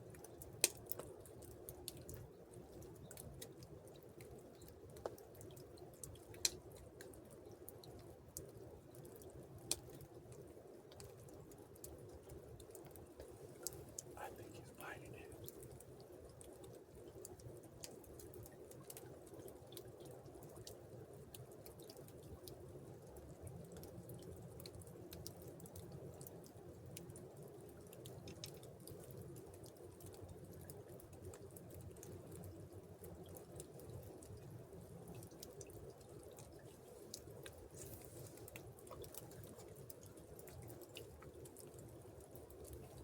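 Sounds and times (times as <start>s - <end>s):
small clicks and drips: 0.0s - 43.0s.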